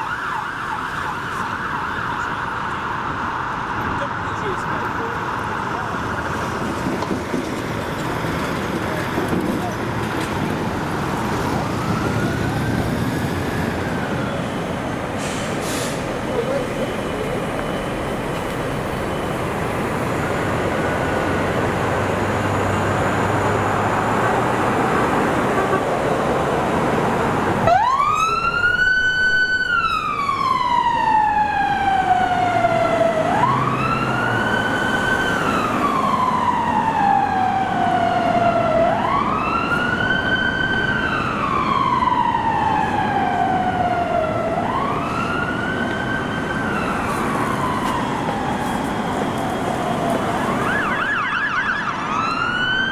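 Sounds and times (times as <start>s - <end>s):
fire engine siren wailing: 0.0s - 52.9s
road traffic: 0.0s - 52.9s.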